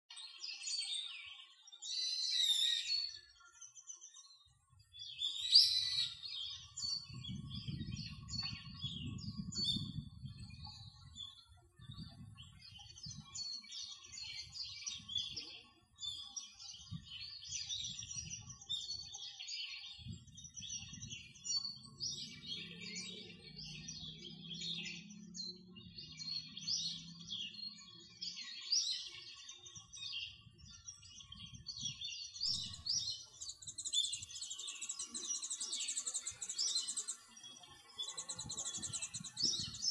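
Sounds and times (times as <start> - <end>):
small birds chirping: 0.1 - 39.9.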